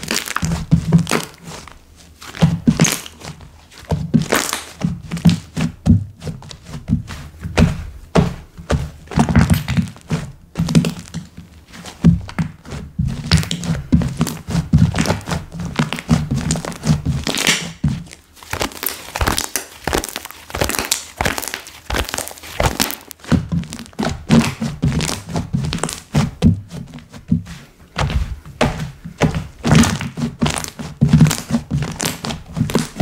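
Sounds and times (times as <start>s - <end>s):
hands squeezing slime: 0.0s - 5.8s, 9.1s - 27.3s, 29.2s - 33.0s.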